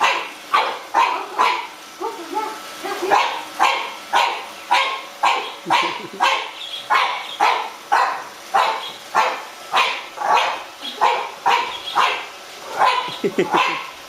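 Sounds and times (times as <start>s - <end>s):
puppy barking: 0.0s - 1.8s, 3.1s - 14.0s.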